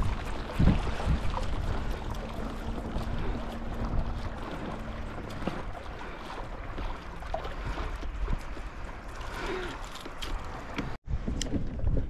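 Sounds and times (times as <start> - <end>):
small waves lapping against hull: 0.0 - 12.0
wind buffeting microphone: 0.0 - 12.0.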